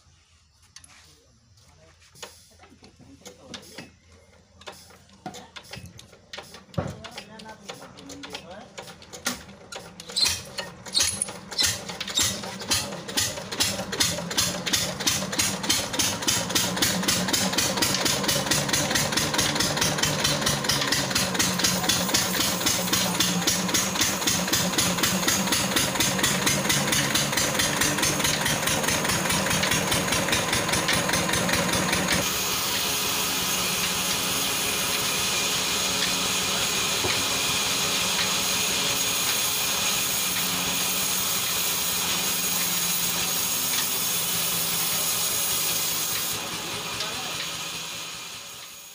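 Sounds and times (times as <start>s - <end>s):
diesel engine chugging: 7.4s - 48.9s.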